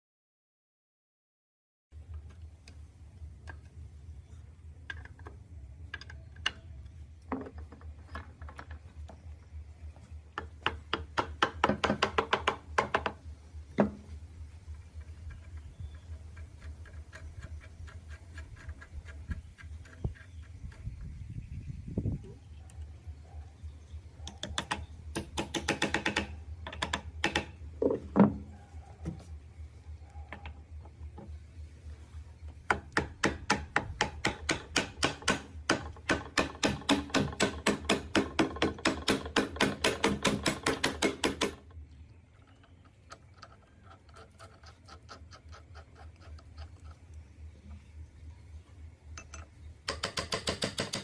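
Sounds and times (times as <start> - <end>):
low steady hum: 1.9 - 50.4.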